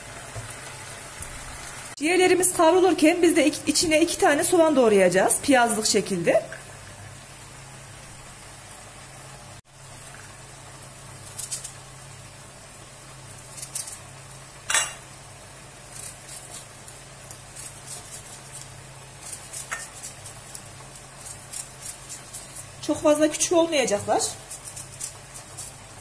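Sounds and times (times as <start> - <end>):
liver sizzling in oil: 0.0 - 26.0.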